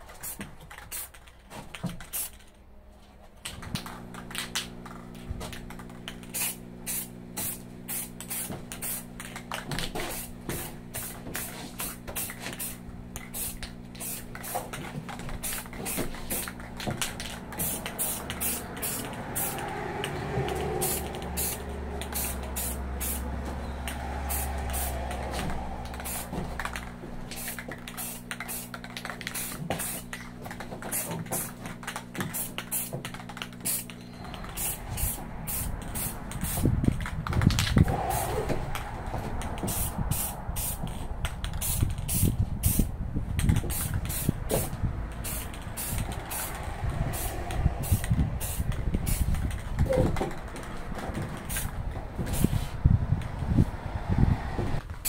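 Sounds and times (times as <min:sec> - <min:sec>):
spray paint can hissing: 0:00.0 - 0:02.5, 0:05.6 - 0:38.8, 0:39.4 - 0:52.7
spray can rattling: 0:00.0 - 0:02.6, 0:03.4 - 0:38.4, 0:39.4 - 0:52.7.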